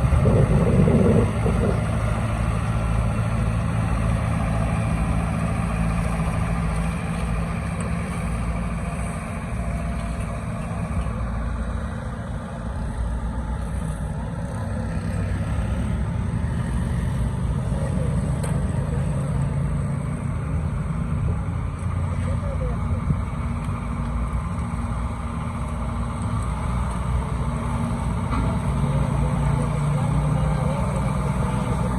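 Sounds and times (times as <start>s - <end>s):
heavy machinery engine running: 0.0s - 31.9s.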